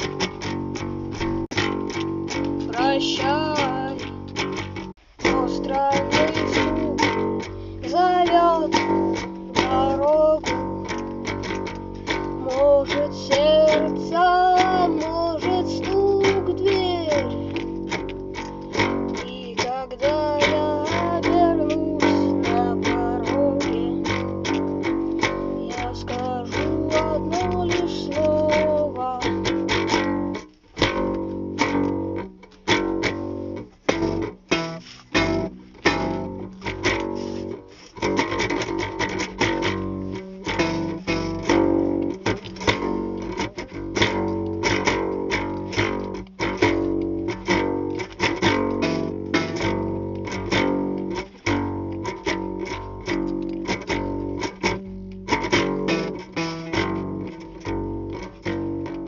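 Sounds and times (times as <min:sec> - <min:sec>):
bass guitar: 0:00.0 - 0:59.0
guitars: 0:00.0 - 0:59.0
sliding lead guitar melody: 0:00.0 - 0:59.0.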